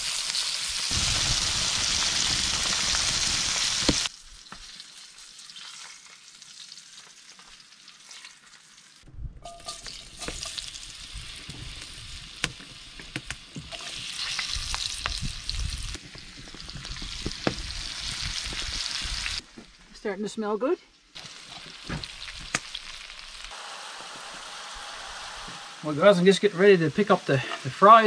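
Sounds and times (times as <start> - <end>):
hot fat sizzling and popping: 0.0 - 19.8, 21.0 - 28.0.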